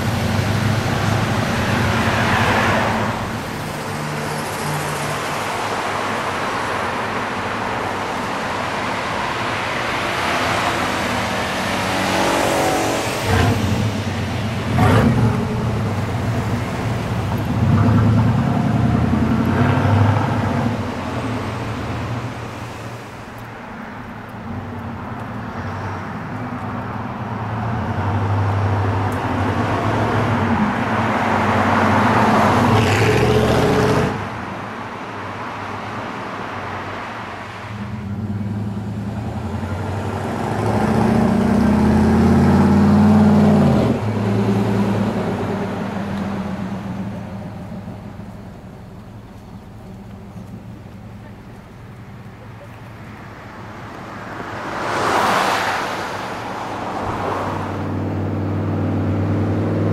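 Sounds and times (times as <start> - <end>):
road traffic: 0.0 - 59.9.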